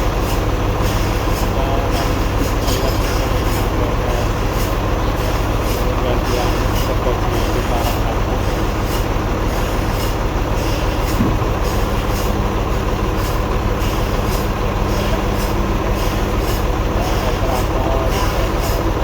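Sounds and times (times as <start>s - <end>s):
sawmill machinery drone: 0.0s - 19.0s
rhythmic hiss: 0.1s - 19.0s.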